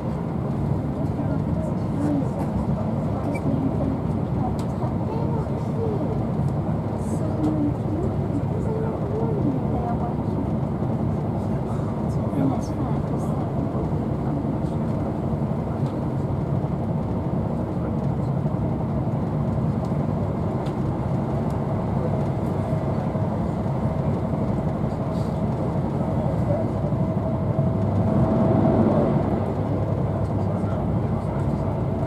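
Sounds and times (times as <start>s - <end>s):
rumble of train wheels on rail: 0.0s - 32.0s.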